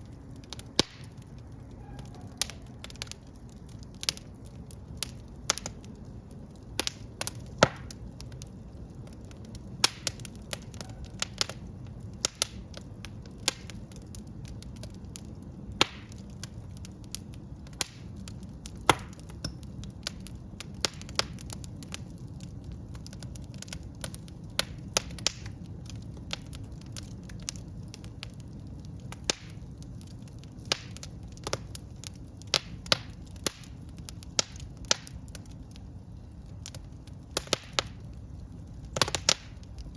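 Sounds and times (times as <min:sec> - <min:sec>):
fire rumbling: 0:00.0 - 0:39.9
logs crackling and popping: 0:00.0 - 0:39.9.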